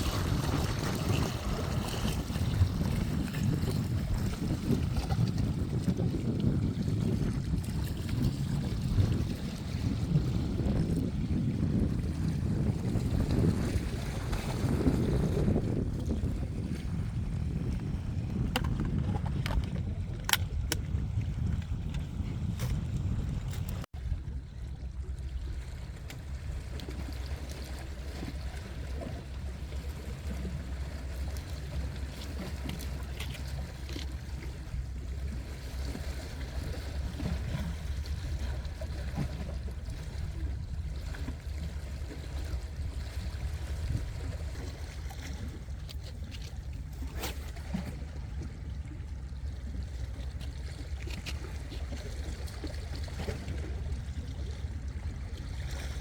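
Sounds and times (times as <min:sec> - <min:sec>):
steady low rumble: 0:00.0 - 0:56.0
water lapping against breakwater: 0:00.0 - 0:56.0.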